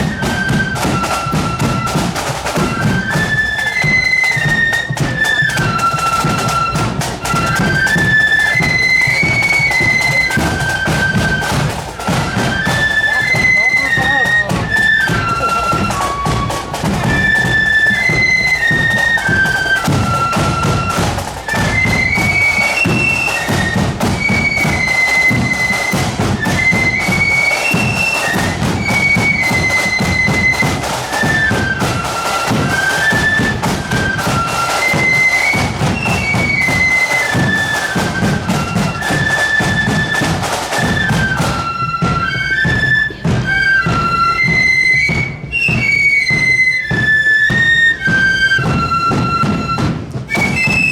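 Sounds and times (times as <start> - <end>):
bass and side drums beating: 0.0 - 50.9
flutes playing in unison: 0.0 - 50.9.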